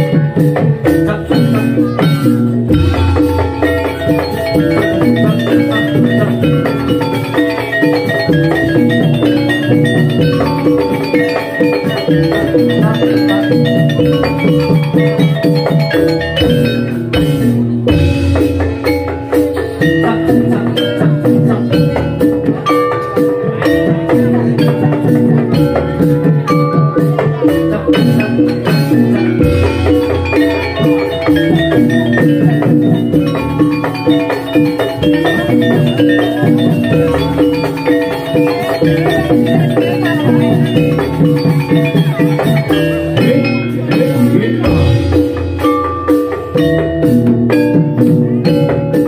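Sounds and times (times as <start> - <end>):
drums: 0.0 - 49.0
metallophones ringing fast pattern: 0.0 - 49.0.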